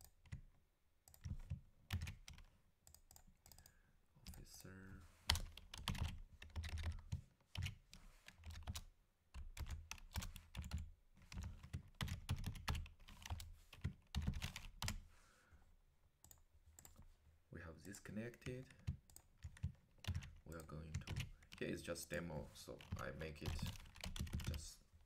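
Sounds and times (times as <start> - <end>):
computer keyboard typing: 0.0 - 4.6, 5.3 - 15.0, 16.2 - 17.0, 18.4 - 21.7, 22.8 - 24.7.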